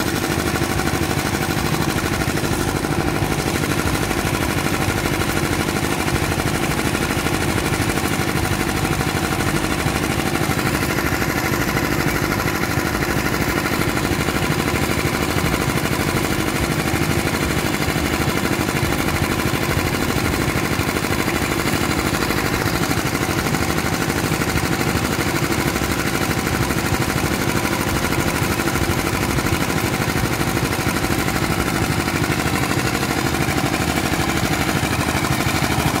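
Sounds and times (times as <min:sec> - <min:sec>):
drilling rig engine running: 0:00.0 - 0:36.0.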